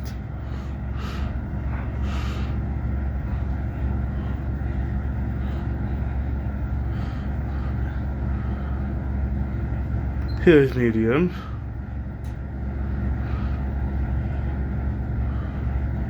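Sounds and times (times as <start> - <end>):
ceiling fan running: 0.0 - 16.0.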